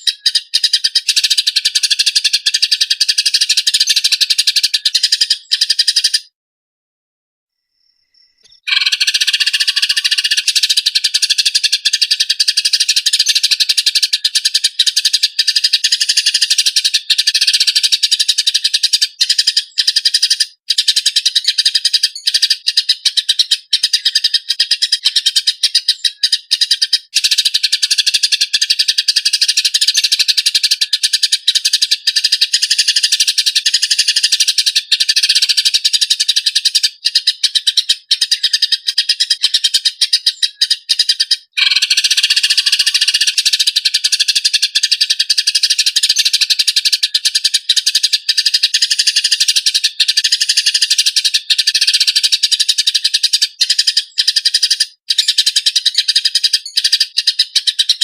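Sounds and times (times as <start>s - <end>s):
sparrows chirping harshly: 0.0s - 6.3s, 7.6s - 58.0s.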